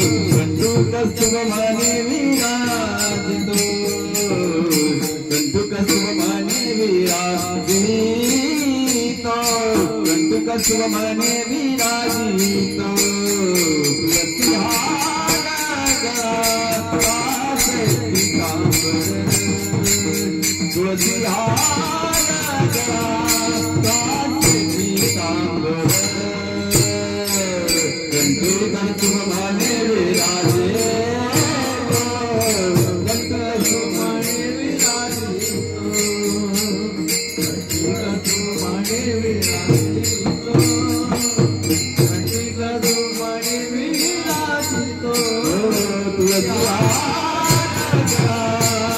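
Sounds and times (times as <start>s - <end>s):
small hand cymbals jingling: 0.0s - 48.9s.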